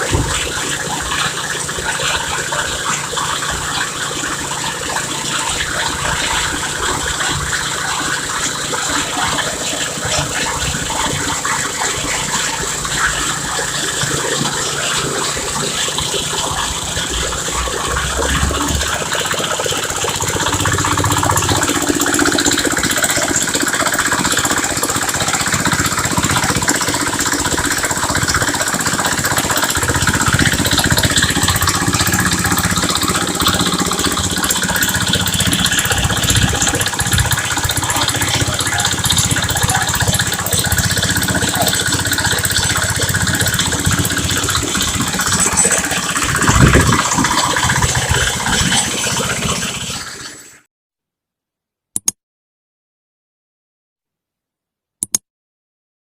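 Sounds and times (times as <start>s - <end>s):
drilling rig engine running: 0.0s - 50.5s.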